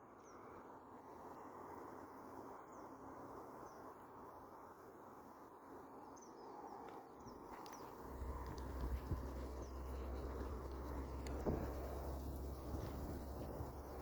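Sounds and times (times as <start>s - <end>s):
low outdoor hiss: 0.0s - 14.0s.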